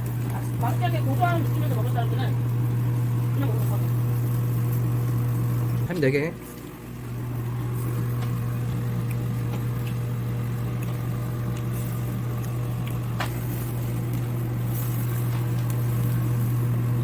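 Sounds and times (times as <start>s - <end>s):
exhaust fan humming: 0.0s - 17.0s.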